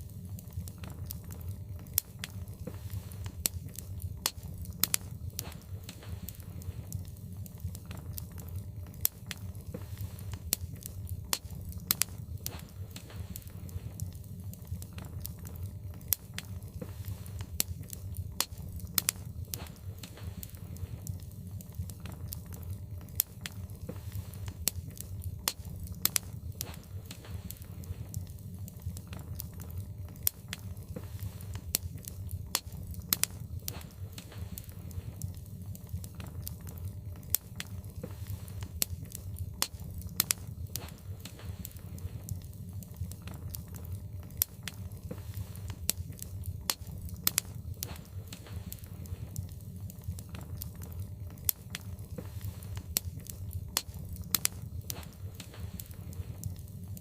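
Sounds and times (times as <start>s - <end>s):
logs crackling in a fireplace: 0.0s - 57.0s.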